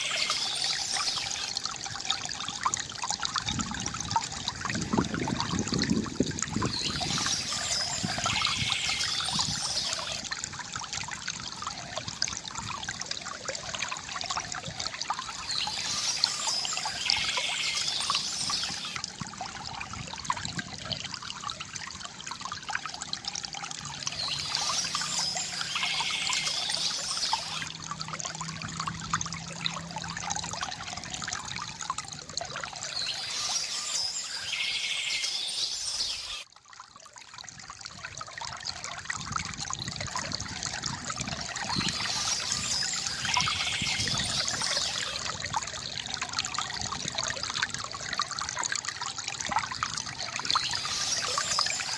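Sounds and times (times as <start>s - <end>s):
bamboo fountain water trickling: 0.0s - 51.9s.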